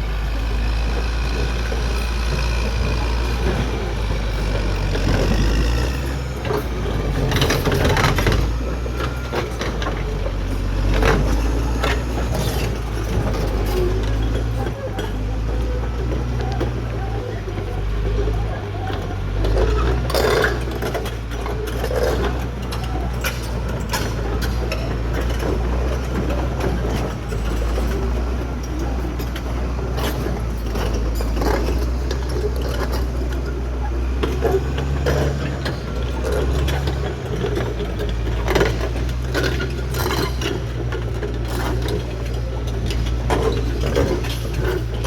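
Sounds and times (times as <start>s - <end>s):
bulldozer diesel engine running: 0.0s - 45.0s
steel tracks clanking: 0.0s - 45.0s.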